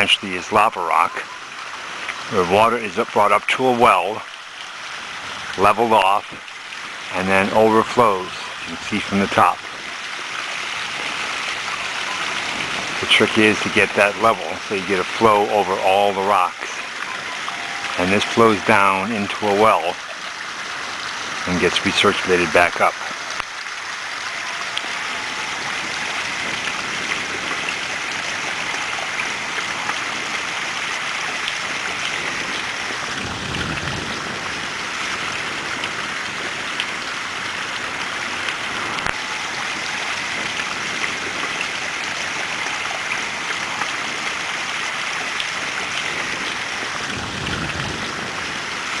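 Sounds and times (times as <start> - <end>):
waterfall splashing onto rocks: 0.0 - 49.0.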